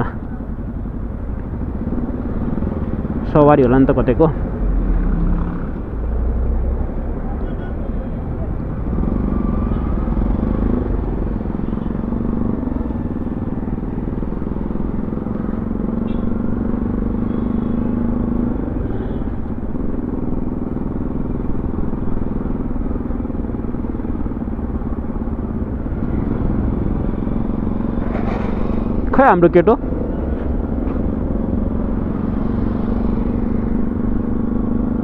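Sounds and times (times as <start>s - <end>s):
motorcycle engine running: 0.0s - 5.9s, 7.2s - 35.0s.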